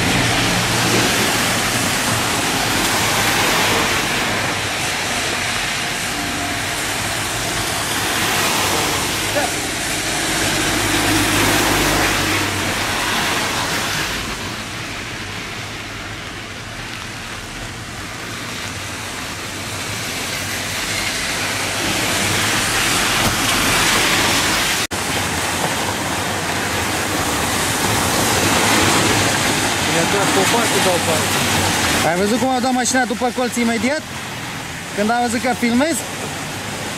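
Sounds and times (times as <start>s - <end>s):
car tyres swishing on wet road: 0.0s - 36.9s
rain falling on wet street: 0.0s - 36.9s.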